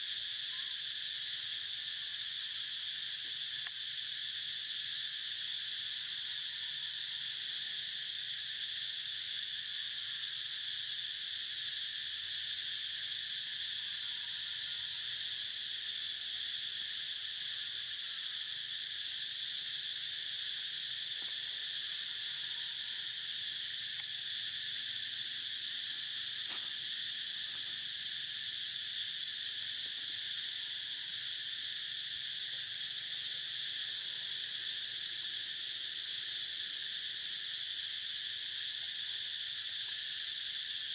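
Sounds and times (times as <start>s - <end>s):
insects buzzing shrilly: 0.0s - 40.9s.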